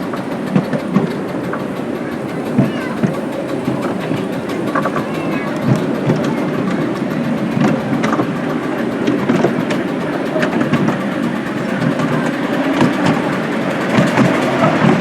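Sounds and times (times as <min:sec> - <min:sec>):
miniature train rumbling: 0:00.0 - 0:15.0
wheels clicking on rails: 0:00.0 - 0:15.0.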